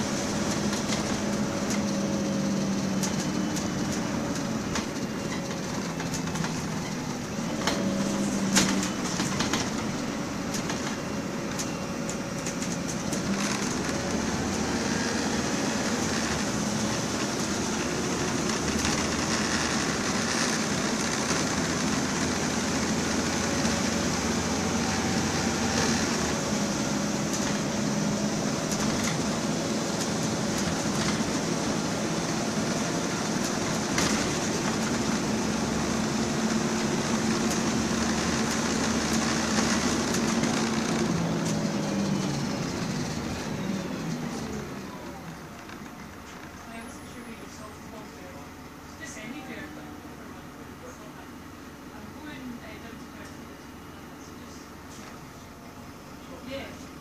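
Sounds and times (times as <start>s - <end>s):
bus diesel engine running: 0.0s - 57.0s
road noise: 0.0s - 57.0s.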